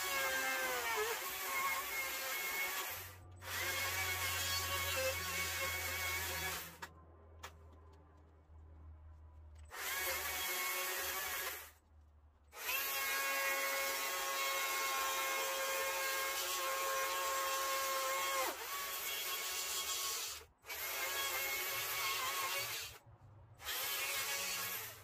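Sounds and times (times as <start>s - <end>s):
power carving tool whining: 0.0s - 6.9s, 9.7s - 11.7s, 12.6s - 23.0s, 23.6s - 25.0s.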